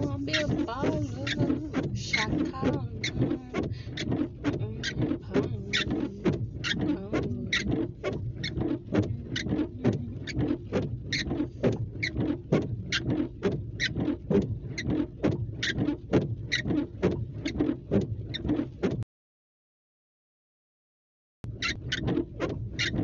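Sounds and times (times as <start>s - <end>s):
car engine idling hum: 0.0s - 18.9s, 21.5s - 23.0s
even ticking: 0.0s - 19.0s.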